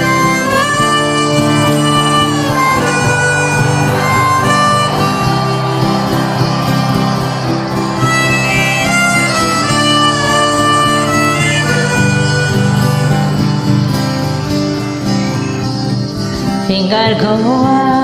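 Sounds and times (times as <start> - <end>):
harmonica melody: 0.0 - 16.7
strummed acoustic guitar: 0.0 - 18.0.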